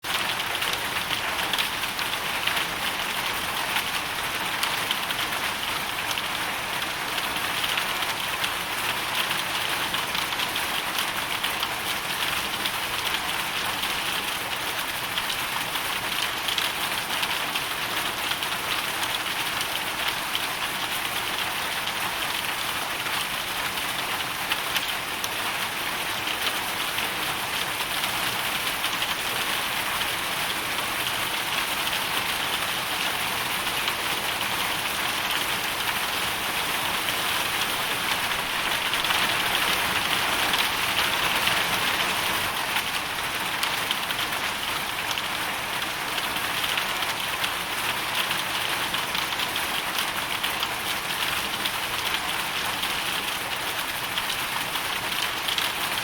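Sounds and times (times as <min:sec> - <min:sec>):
hail and rain pelting: 0:00.1 - 0:56.0.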